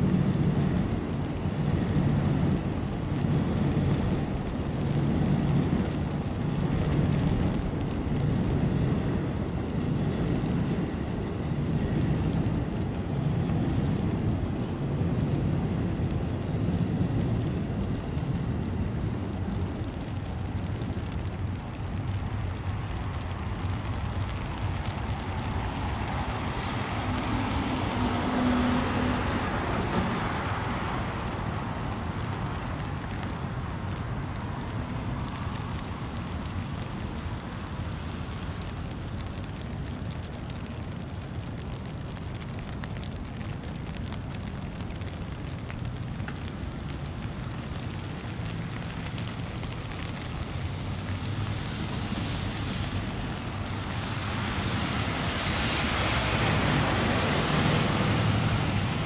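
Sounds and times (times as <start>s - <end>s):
low rumble of city traffic: 0.0s - 59.0s.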